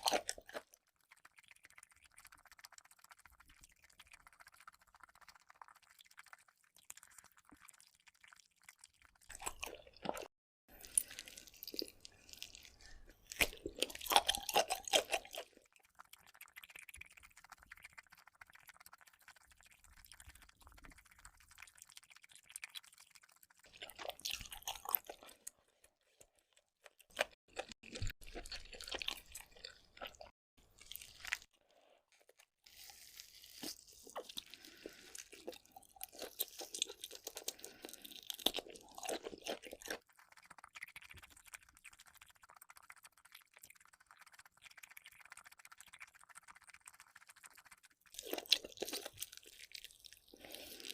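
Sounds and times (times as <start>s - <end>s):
person chewing and crunching: 0.0s - 18.0s, 19.6s - 50.9s.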